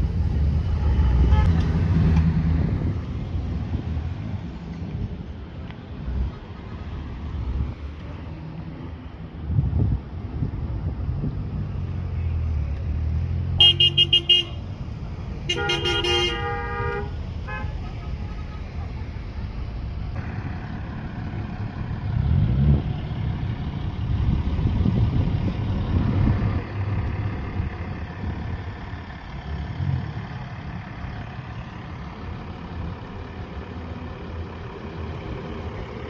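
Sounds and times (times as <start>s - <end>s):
cars driving slowly past: 0.0s - 36.0s.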